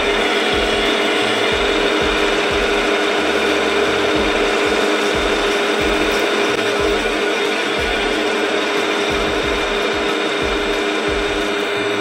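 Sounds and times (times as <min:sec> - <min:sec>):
milling machine cutting metal: 0:00.0 - 0:12.0.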